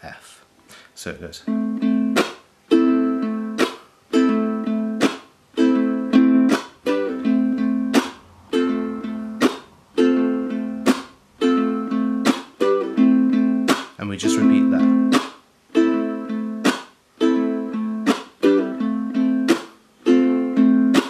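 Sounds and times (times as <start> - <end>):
ukulele strumming: 1.4 - 21.0.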